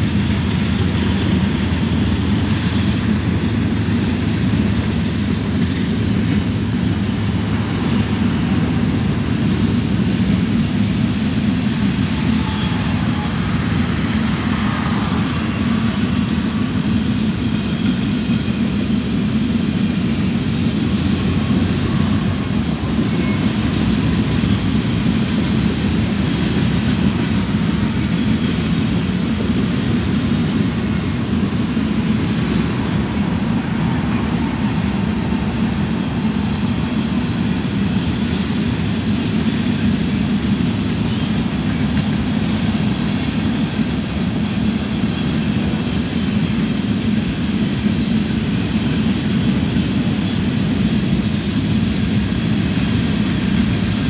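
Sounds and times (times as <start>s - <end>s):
road traffic passing: 0.0s - 54.0s
train wheels on rails: 0.0s - 54.0s.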